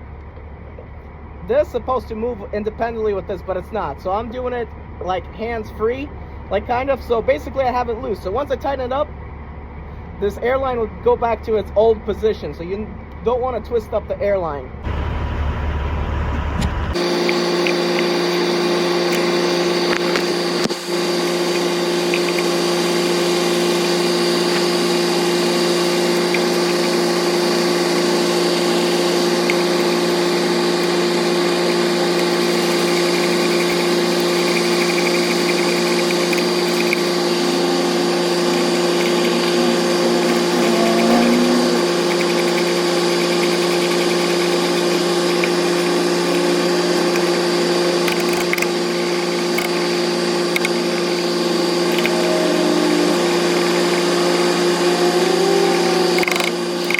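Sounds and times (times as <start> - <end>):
steady engine hum: 0.0 - 13.6, 14.2 - 56.9.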